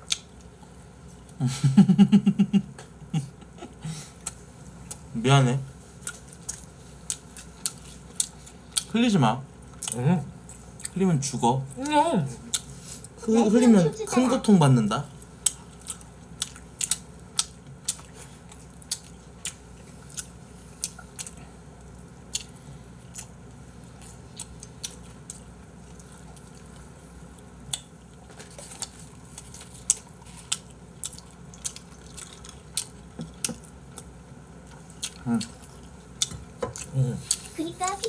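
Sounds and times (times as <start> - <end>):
person chewing food: 0.0 - 1.4, 2.8 - 5.1, 5.8 - 8.9, 9.6 - 11.0, 11.7 - 13.2, 15.1 - 38.0.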